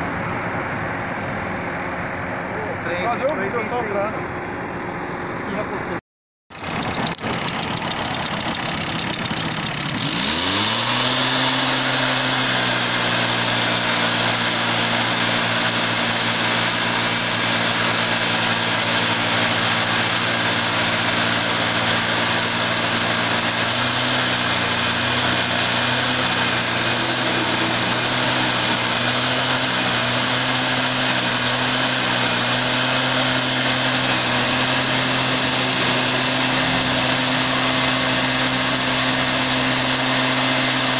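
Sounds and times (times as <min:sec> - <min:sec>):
leaf blower engine: 0:06.5 - 0:40.9.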